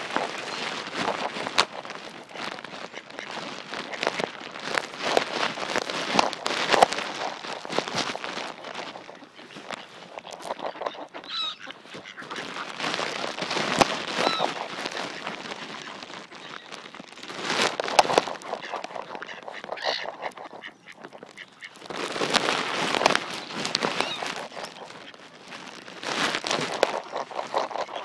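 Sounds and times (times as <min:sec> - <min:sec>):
ducks quacking: 0:00.0 - 0:28.0
rustling and crunching on bark mulch: 0:00.0 - 0:28.0.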